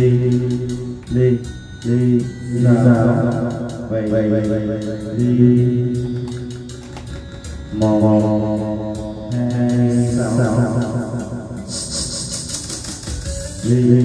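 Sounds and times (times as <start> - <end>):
instrumental music through speakers: 0.0 - 14.0.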